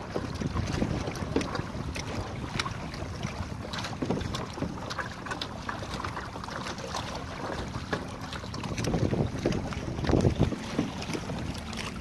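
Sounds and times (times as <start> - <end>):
wind buffeting microphone: 0.0 - 4.9, 7.1 - 12.0
water splashing against hull: 0.0 - 12.0.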